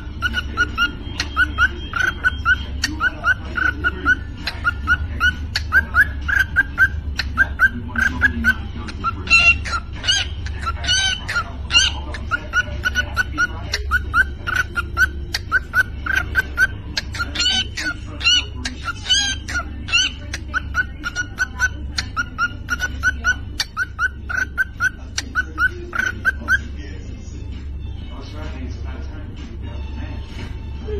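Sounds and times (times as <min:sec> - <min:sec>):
cockatiel chirping and clicking: 0:00.0 - 0:26.7.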